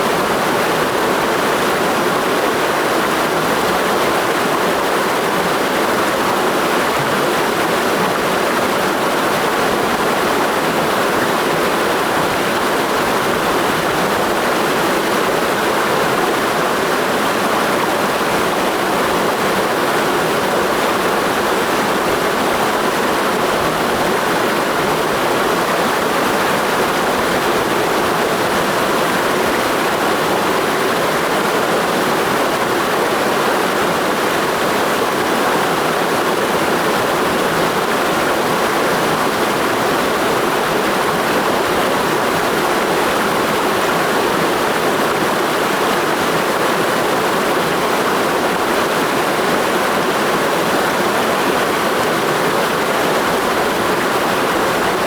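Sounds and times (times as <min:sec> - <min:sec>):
mountain stream flowing: 0:00.0 - 0:55.0.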